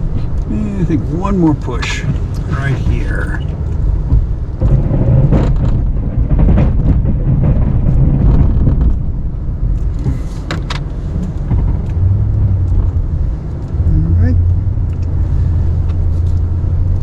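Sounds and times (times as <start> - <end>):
truck engine rumbling under load: 0.0 - 17.0.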